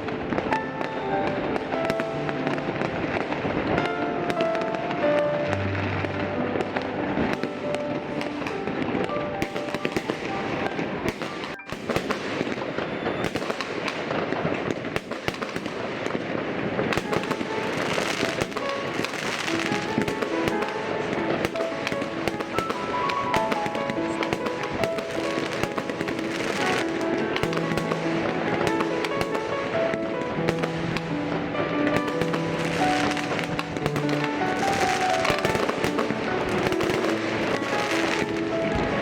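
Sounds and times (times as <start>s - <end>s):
baroque orchestral music: 0.0s - 39.0s
fireworks bangs and crackles: 0.0s - 39.0s.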